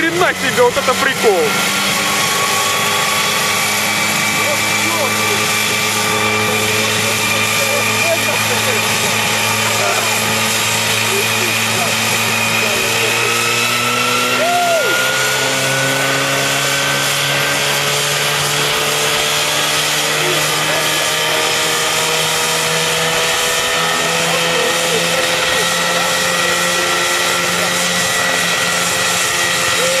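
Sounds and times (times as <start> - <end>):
helicopter engine droning: 0.0 - 30.0.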